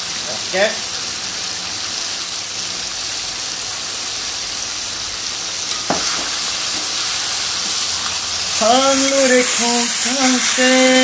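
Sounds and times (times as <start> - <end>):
pickle sizzling in a pan: 0.0 - 11.0.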